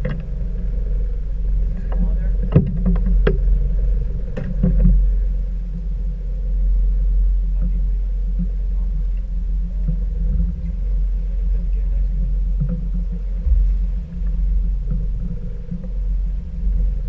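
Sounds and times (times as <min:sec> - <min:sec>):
outboard motors rumbling: 0:00.0 - 0:17.0.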